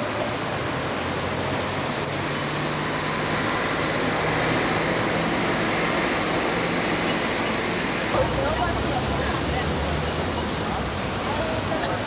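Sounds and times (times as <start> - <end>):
passing vehicles rushing: 0.0 - 12.0.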